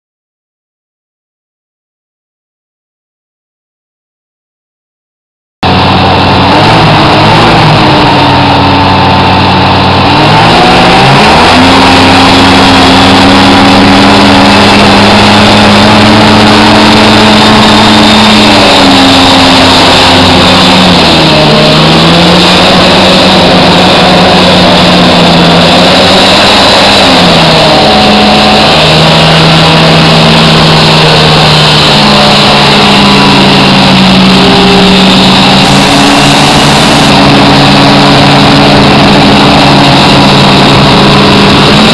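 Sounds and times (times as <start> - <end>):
hovercraft engine and fan running: 5.6 - 41.9.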